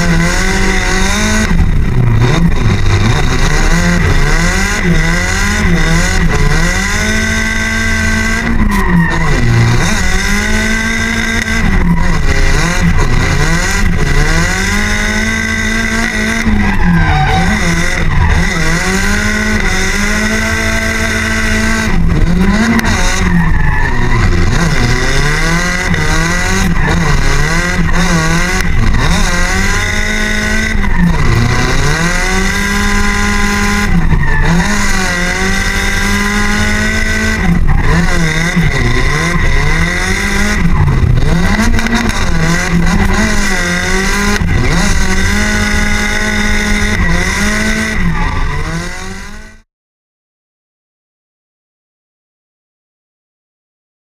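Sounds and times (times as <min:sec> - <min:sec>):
car engine revving high: 0:00.0 - 0:49.6
tyres screeching: 0:02.1 - 0:48.9.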